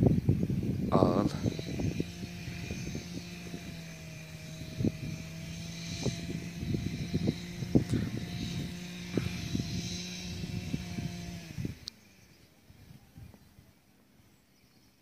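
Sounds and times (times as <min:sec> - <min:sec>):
engine droning: 0:00.0 - 0:14.8.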